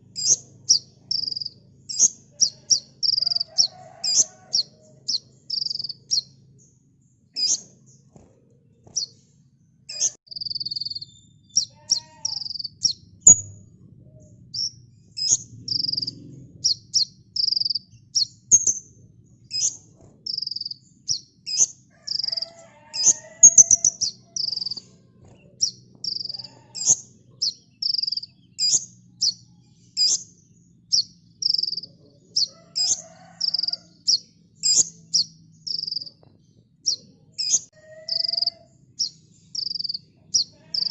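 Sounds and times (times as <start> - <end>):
sunbird chirping: 0.0 - 8.1, 9.9 - 40.9.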